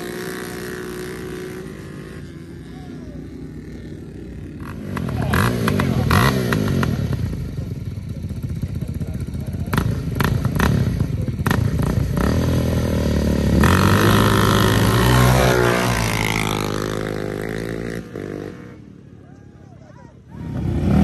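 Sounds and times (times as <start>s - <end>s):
atv engines revving and accelerating: 0.0s - 21.0s.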